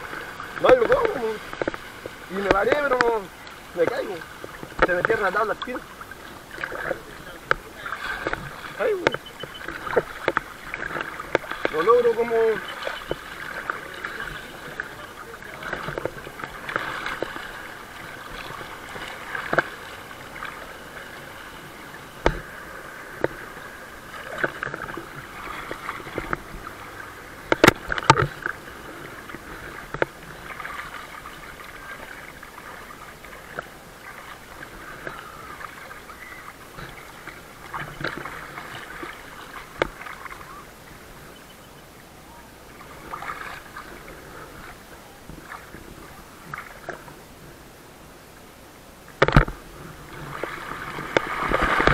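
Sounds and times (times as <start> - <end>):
water lapping and sloshing: 0.0 - 51.9.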